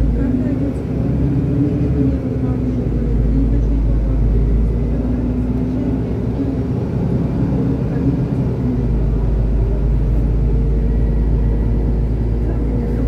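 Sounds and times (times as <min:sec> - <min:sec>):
bus drivetrain and tyres rumbling: 0:00.0 - 0:13.0.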